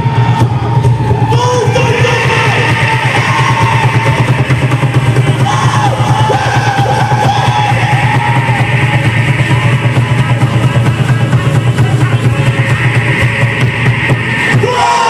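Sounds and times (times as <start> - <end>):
fast steady drumming: 0.0 - 15.0.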